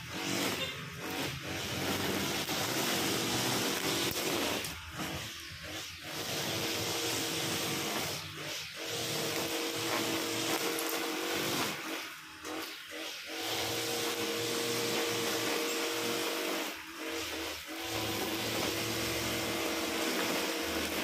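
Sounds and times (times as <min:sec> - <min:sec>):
brush cutter engine at high revs: 0:00.0 - 0:21.0.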